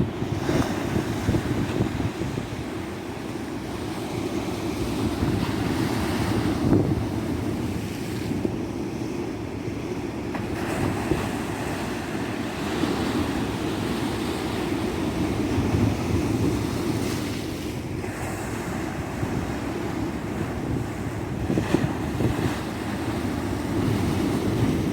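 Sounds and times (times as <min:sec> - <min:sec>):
wind rumbling on microphone: 0:00.0 - 0:03.9, 0:04.5 - 0:08.6, 0:12.9 - 0:24.9
ocean waves breaking on beach: 0:00.0 - 0:24.9.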